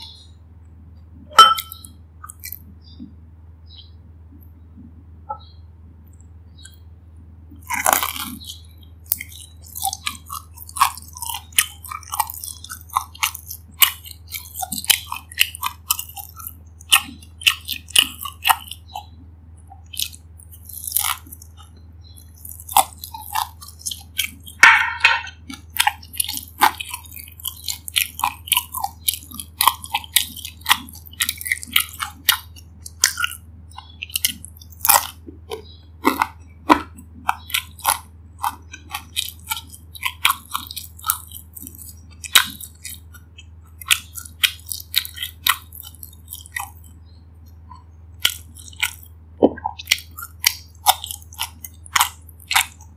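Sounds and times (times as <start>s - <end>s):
crunchy chewing of fried food: 0.0s - 4.0s, 4.8s - 52.9s.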